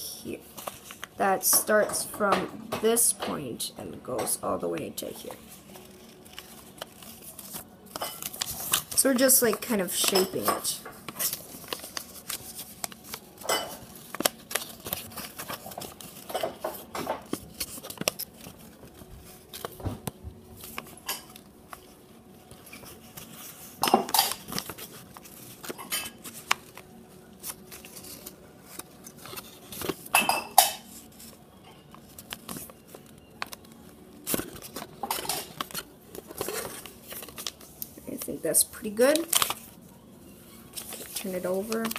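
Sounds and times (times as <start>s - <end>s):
paper rustling and crinkling: 0.4s - 1.2s, 5.0s - 41.9s.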